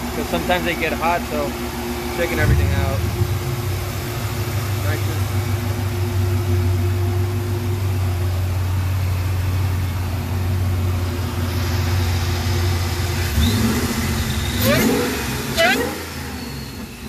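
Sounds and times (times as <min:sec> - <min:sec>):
car engine idling: 0:00.0 - 0:17.0
engine revving: 0:00.0 - 0:17.0.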